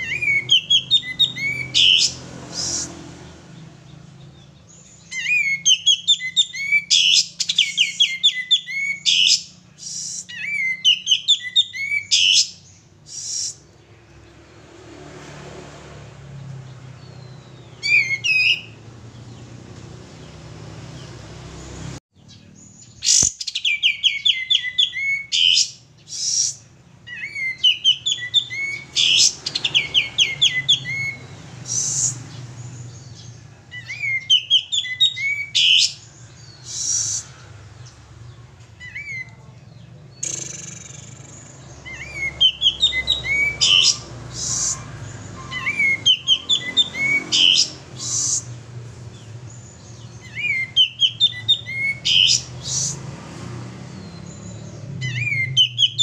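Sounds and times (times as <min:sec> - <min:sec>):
bird chirping: 0:00.0 - 0:14.5, 0:16.0 - 0:56.0.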